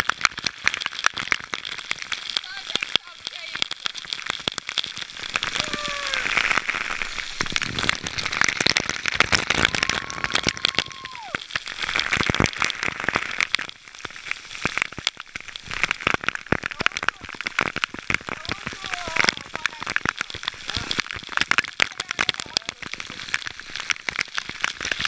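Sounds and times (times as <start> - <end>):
rush of falling water: 0.0 - 25.0.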